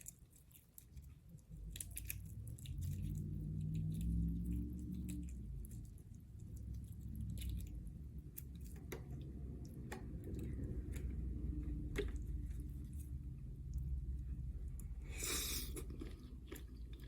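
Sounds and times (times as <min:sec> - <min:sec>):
wet squishy chewing: 0:00.0 - 0:17.0.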